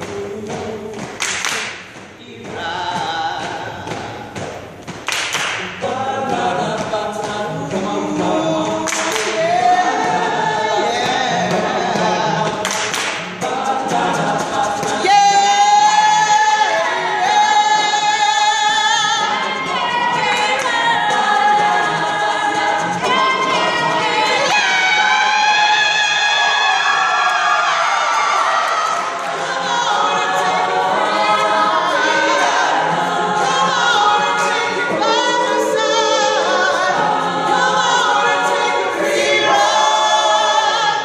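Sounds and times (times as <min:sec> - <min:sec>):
a cappella group singing: 0:00.0 - 0:41.0
vocal percussive hits: 0:00.0 - 0:41.0.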